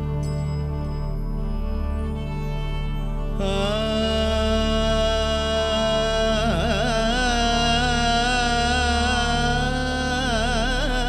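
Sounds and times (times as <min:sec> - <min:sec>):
devotional melody with ornamented slides: 0:00.0 - 0:11.0
steady low drone: 0:00.0 - 0:11.0.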